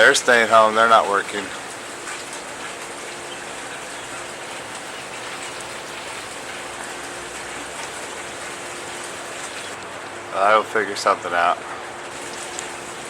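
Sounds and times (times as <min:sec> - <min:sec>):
faint steady hum: 0:00.0 - 0:13.0
steady rain falling: 0:00.0 - 0:13.0.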